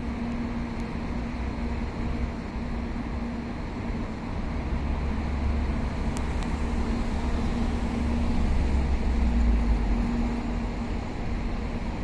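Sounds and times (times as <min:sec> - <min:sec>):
train rumbling and humming: 0:00.0 - 0:12.0.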